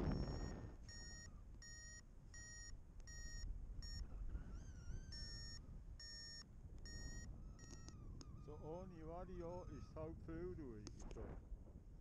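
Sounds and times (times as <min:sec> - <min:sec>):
variometer beeping: 0:00.0 - 0:09.9
faint wind noise: 0:00.0 - 0:12.0.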